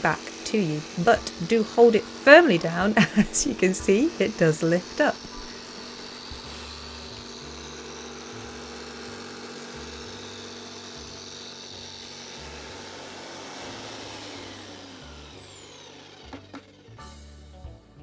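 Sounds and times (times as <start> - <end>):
jigsaw cutting a board: 0.0 - 17.4.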